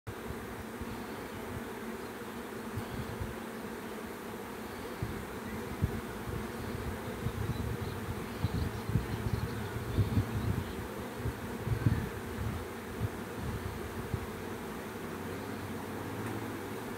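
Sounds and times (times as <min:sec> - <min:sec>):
honeybees buzzing: 0:00.1 - 0:16.9.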